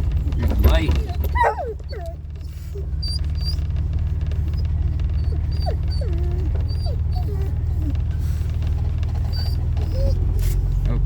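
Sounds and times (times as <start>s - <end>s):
car engine running: 0.0s - 11.0s
dog whining: 0.3s - 10.7s.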